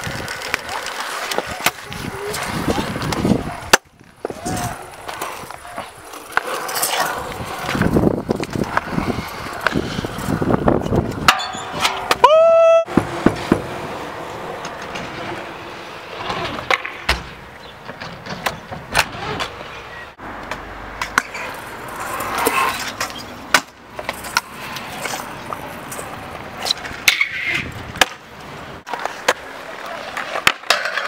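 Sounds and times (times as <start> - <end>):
scooter wheels rolling on concrete: 0.0 - 31.0.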